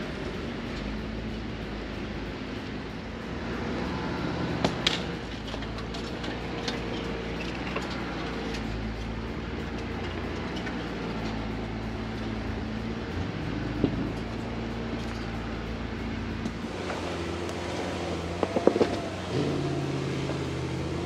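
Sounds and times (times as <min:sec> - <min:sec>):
off-road vehicle engine running: 0:00.0 - 0:21.0.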